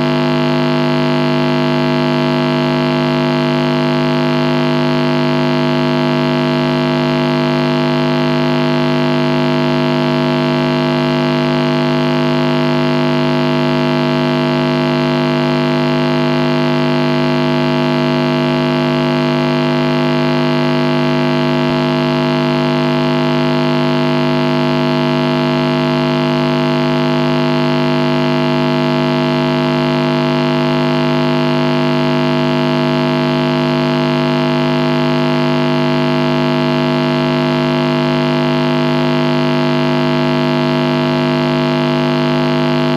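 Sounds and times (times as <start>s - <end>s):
amplifier buzzing hum: 0.0s - 42.9s.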